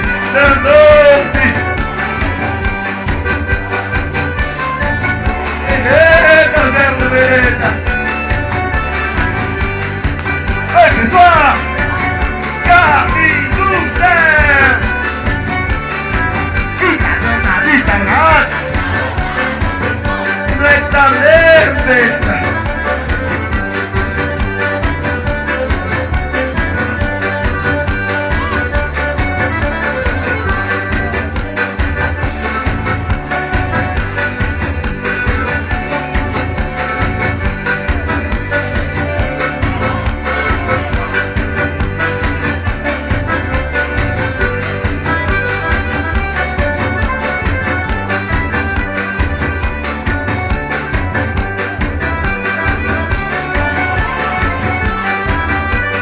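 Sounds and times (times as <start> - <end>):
instrumental dance music: 0.0 - 56.0.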